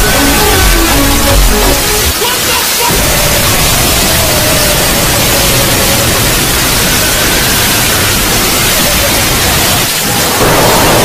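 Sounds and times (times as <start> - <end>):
loud static-like distortion noise: 0.0 - 11.0.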